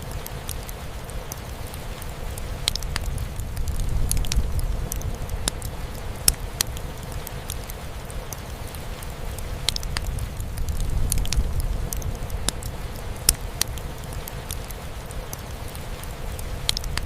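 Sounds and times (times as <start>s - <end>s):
fire crackling and popping: 0.0s - 17.0s
rain on a roof: 0.0s - 17.0s.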